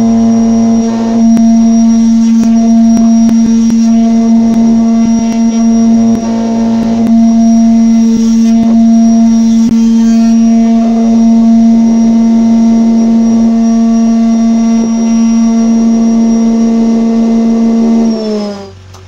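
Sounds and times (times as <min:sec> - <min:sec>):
board fed past router cutter: 0:00.0 - 0:18.8
router running: 0:00.0 - 0:18.8
router spinning down: 0:00.0 - 0:18.8.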